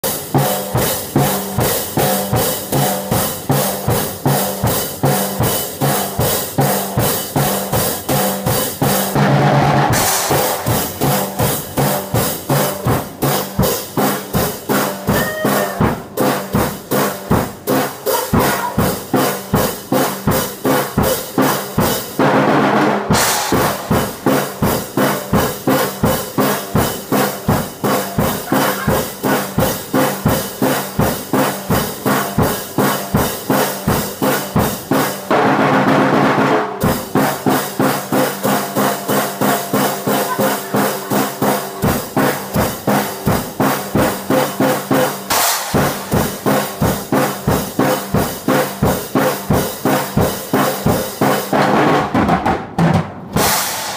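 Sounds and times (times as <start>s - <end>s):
acoustic drum kit playing: 0.0s - 53.9s.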